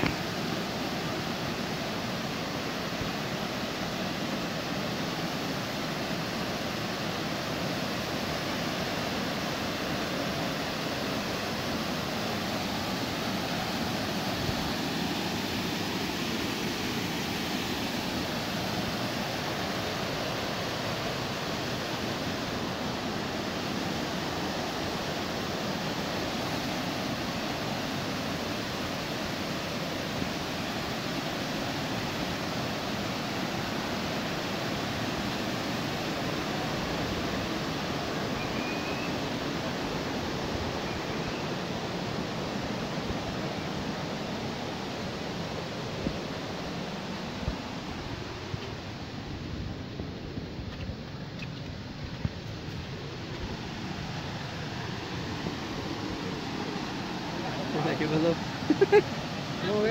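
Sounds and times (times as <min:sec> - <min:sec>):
water rushing over rock cascades: 0:00.0 - 0:59.9.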